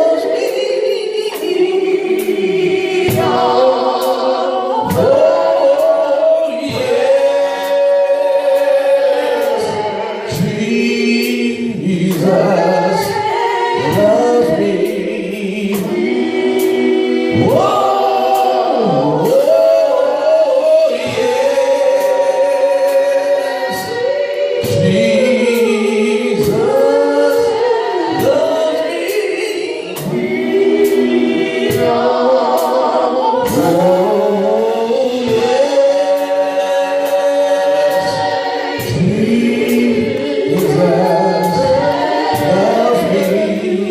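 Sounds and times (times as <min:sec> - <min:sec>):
choir singing gospel: 0:00.0 - 0:43.9.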